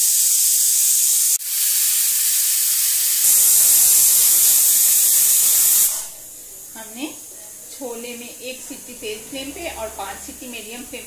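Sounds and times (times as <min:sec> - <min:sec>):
pressure cooker venting steam: 0:00.0 - 0:11.0.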